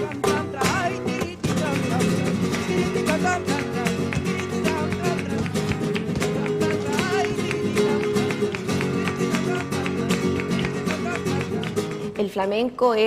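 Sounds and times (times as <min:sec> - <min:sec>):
flamenco acoustic guitar: 0:00.0 - 0:12.8.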